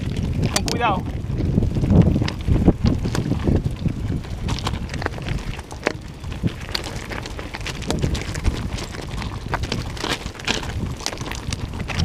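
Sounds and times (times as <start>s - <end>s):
bike rattling: 0.0s - 12.0s
bike tyres rolling over rocks: 0.0s - 12.0s
stones clacking and knocking: 0.0s - 12.0s
wind rumble on microphone: 0.0s - 12.0s.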